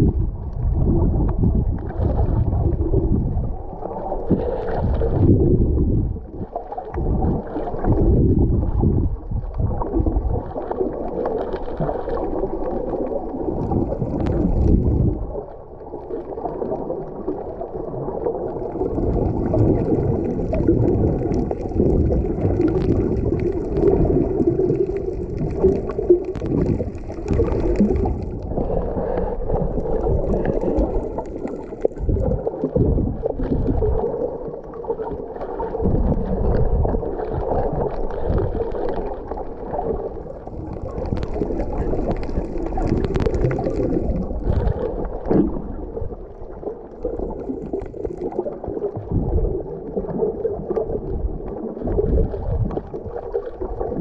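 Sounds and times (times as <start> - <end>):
water gurgling underwater: 0.0 - 54.0.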